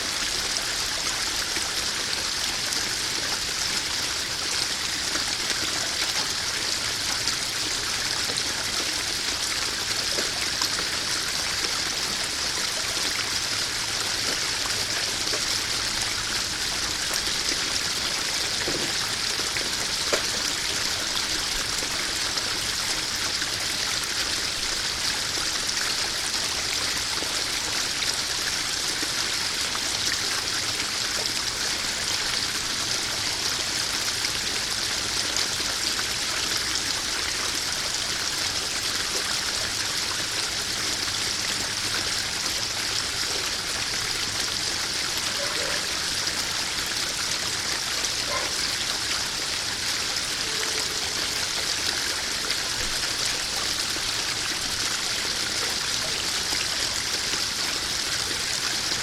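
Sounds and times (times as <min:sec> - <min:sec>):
waterfall splashing into pond: 0:00.0 - 0:59.0.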